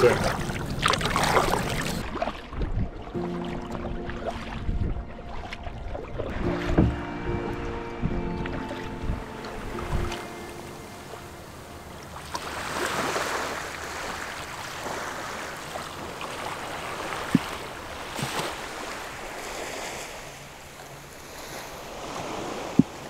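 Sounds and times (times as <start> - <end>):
small waves lapping on shore: 0.0 - 23.0.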